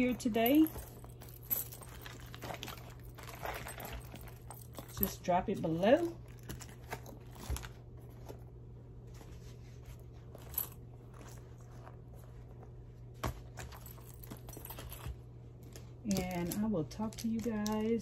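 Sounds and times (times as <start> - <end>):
low steady hum: 0.0 - 18.0
pouches rustling: 0.0 - 18.0.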